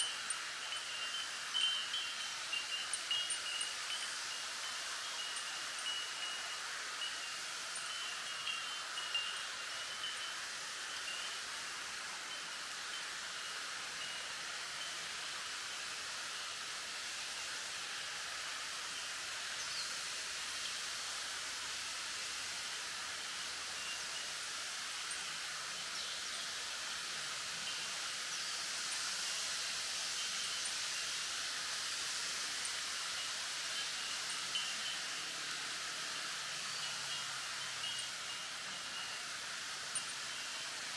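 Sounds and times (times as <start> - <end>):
bamboo leaves rustling in wind: 0.0 - 40.9.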